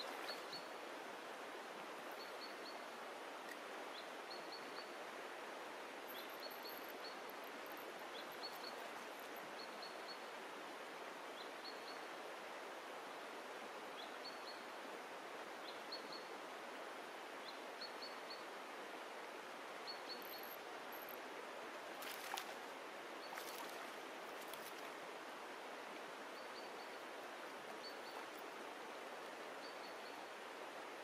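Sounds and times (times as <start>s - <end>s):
shallow stream over stones: 0.0s - 31.0s.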